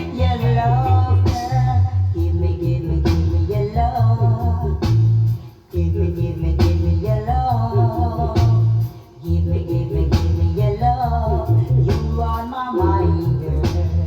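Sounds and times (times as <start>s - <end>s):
heavy bass line: 0.0s - 14.0s
reggae music: 0.0s - 14.0s.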